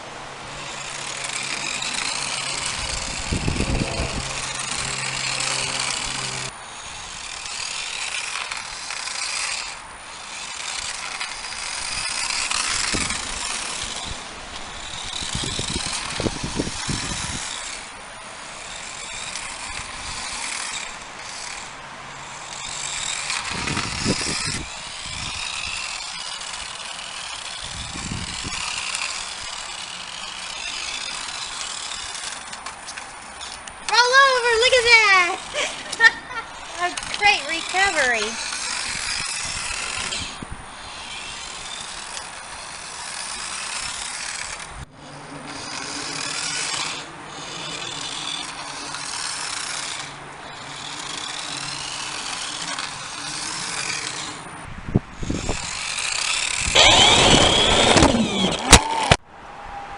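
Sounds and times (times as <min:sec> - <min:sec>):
toy car electric motor whining: 0:00.0 - 0:59.2
tyres spinning: 0:00.0 - 0:59.2.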